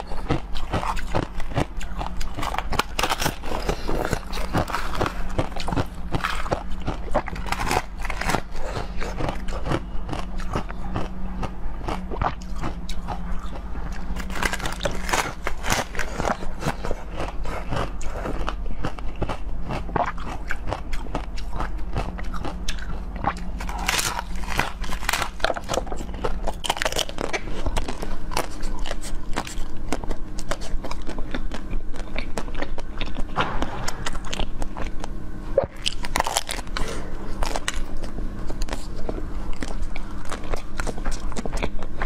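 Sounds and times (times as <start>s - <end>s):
chewing with crisp crunching: 0.0s - 42.0s.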